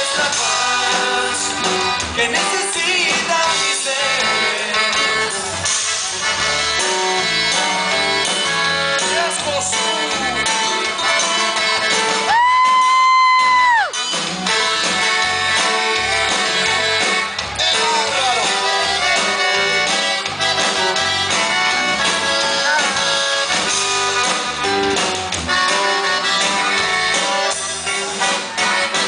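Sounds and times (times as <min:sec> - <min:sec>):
accordion: 0:00.0 - 0:12.7, 0:13.4 - 0:29.0
drums with steady beat: 0:00.0 - 0:29.0
guitar: 0:00.0 - 0:29.0.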